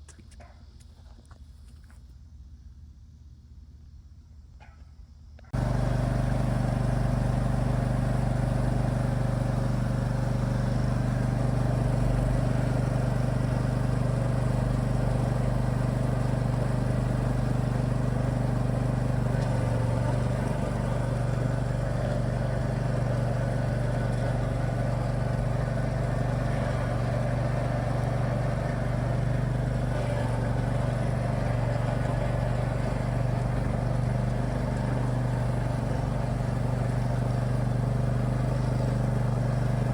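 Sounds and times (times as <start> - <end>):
mower engine running: 5.5 - 39.9.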